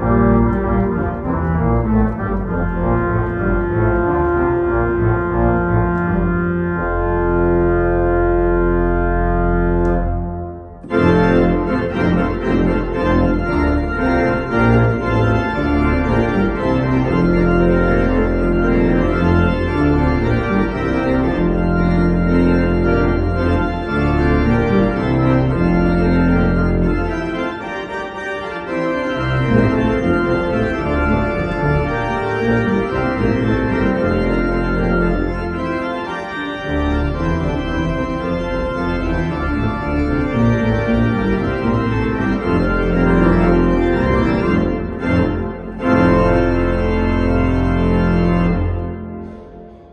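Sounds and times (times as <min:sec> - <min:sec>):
deep organ pedal bass: 0:00.0 - 0:49.9
organ playing sustained chords: 0:00.0 - 0:49.9.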